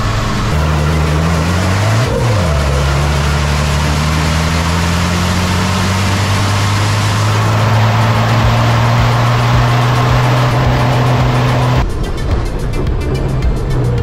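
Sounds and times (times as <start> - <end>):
diesel truck engine under load: 0.0 - 11.8.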